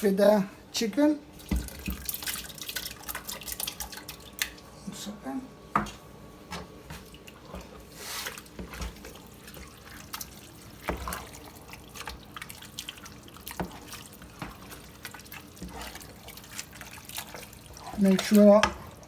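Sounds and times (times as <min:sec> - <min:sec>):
liquid dripping and splashing: 0:01.3 - 0:04.7, 0:05.8 - 0:19.0.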